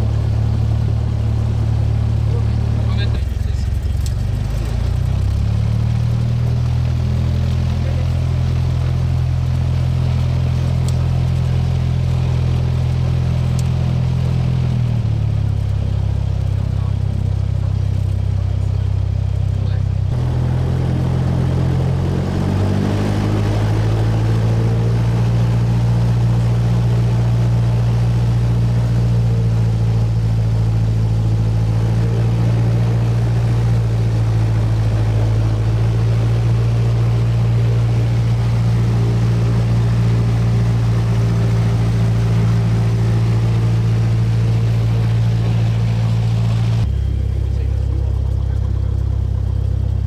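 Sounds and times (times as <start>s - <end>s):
propeller plane engine from cabin: 0.0s - 50.0s.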